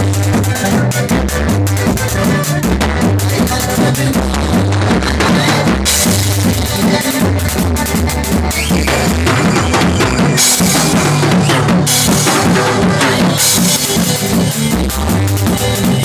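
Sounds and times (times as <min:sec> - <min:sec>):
band music: 0:00.0 - 0:16.0
drum kit beat: 0:00.0 - 0:16.0.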